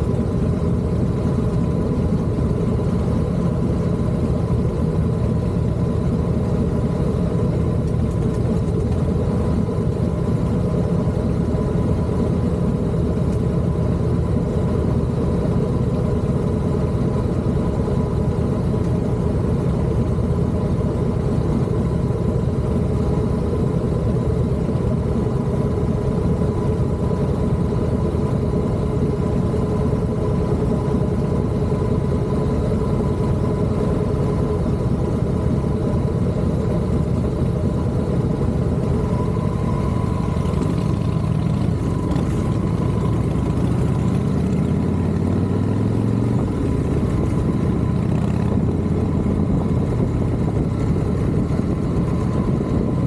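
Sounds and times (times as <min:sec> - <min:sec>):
road noise: 0:00.0 - 0:53.0
vehicle engine: 0:00.0 - 0:53.0.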